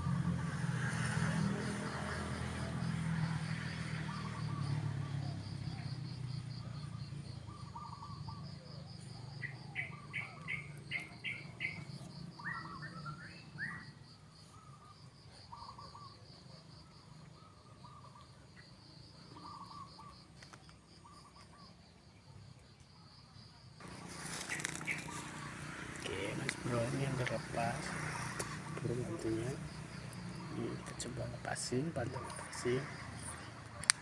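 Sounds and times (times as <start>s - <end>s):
insect trill: 0.0s - 34.0s
small birds chirping: 1.6s - 34.0s.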